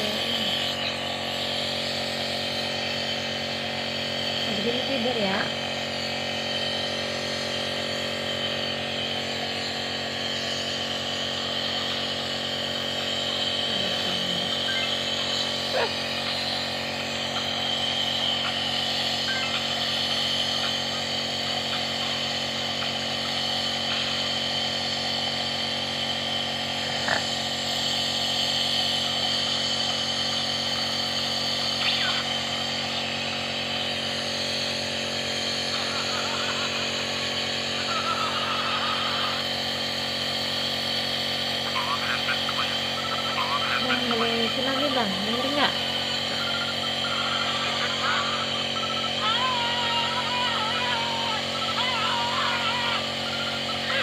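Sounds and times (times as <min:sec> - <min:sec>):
nebulizer motor humming and pulsing: 0:00.0 - 0:54.0.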